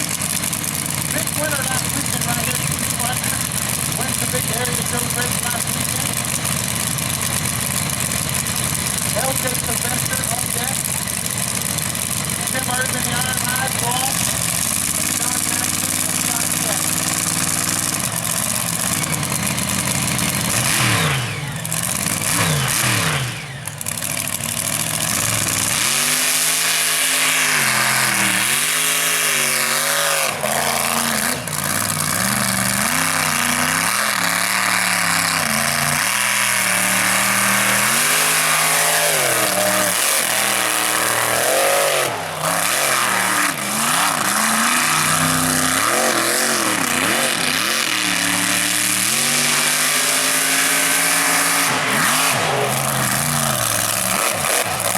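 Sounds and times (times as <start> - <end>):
truck engine revving hard: 0.0 - 54.9.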